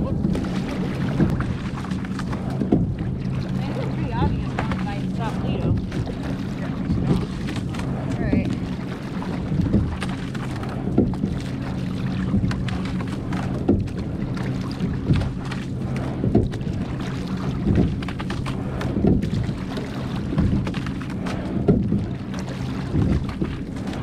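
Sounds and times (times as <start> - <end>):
oar strokes: 0.0 - 24.0
steady low hum: 0.0 - 24.0
water wash: 0.0 - 24.0.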